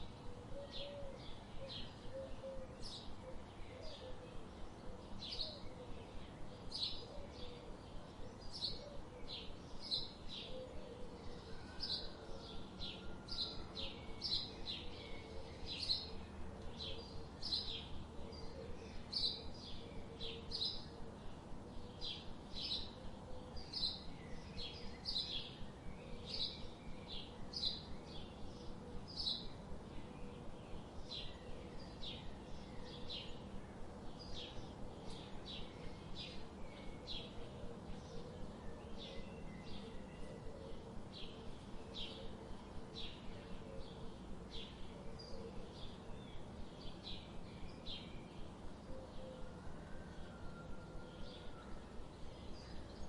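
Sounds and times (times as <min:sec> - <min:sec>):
faint background noise: 0:00.0 - 0:53.0
songbirds chirping: 0:00.0 - 0:53.0.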